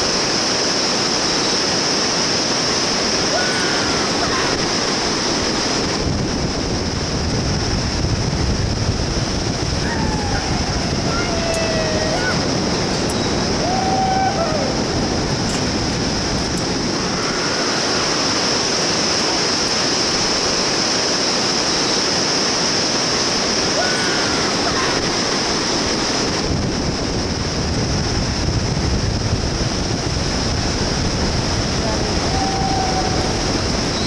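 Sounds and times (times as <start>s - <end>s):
rushing whitewater rapids: 0.0s - 34.0s
wind: 0.0s - 34.0s.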